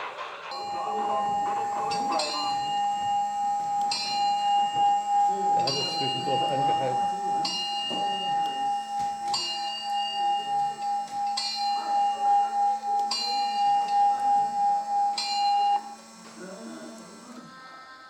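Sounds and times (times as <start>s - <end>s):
bell-like strikes: 0.5s - 15.8s
steady pulsing tone: 0.5s - 17.3s.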